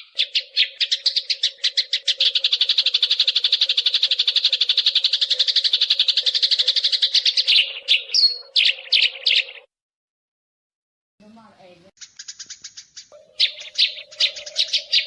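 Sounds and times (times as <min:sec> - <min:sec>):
sparrow chirping: 0:00.0 - 0:09.7, 0:12.0 - 0:15.0.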